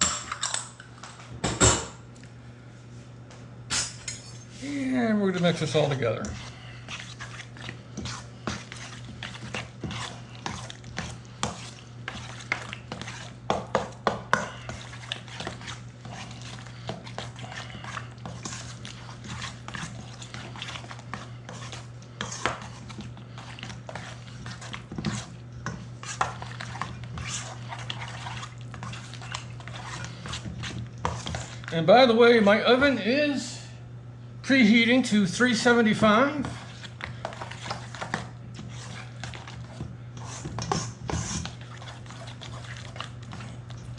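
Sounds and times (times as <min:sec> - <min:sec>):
utensil stirring in bowl: 0:04.1 - 0:33.0, 0:34.8 - 0:43.9.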